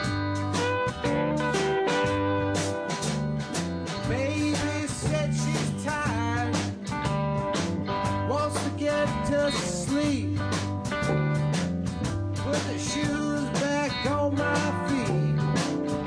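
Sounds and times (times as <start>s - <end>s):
bluesy country guitar music: 0.0s - 16.0s.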